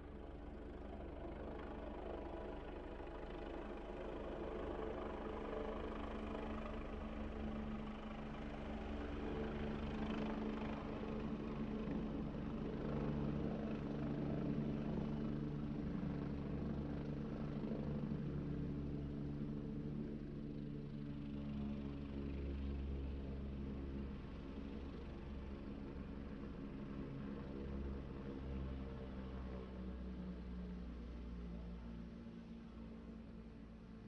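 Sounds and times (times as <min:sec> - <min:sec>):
helicopter engine and rotors: 0:00.0 - 0:34.0.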